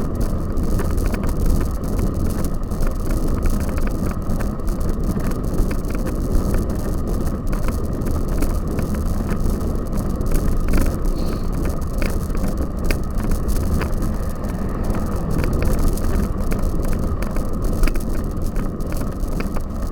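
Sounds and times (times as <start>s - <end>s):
bicycle rumble: 0.0s - 19.9s
wind rush on microphone: 0.0s - 19.9s
bike rattles and clicks: 0.1s - 19.9s.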